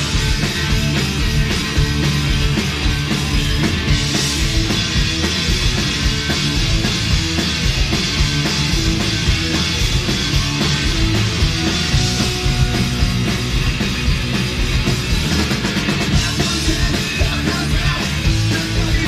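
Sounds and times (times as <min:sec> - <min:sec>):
bass guitar: 0:00.0 - 0:19.0
distorted electric guitars: 0:00.0 - 0:19.0
drum kit: 0:00.0 - 0:19.0.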